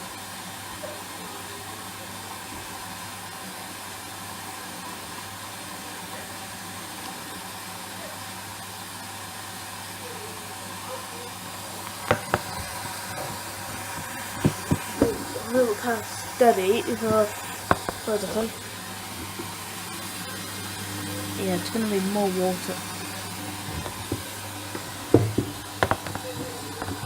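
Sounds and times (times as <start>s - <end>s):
washing machine low hum: 0.0s - 27.0s
water running in hiss: 0.0s - 27.0s.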